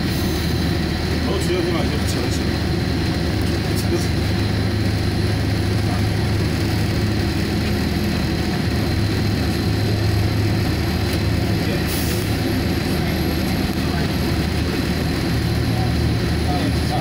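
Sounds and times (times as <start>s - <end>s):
low vehicle engine rumble: 0.0s - 17.0s.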